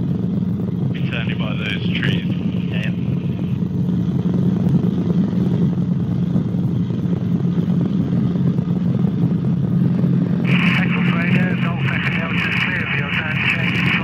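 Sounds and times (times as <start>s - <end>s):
helicopter engine and rotors droning: 0.0s - 14.0s.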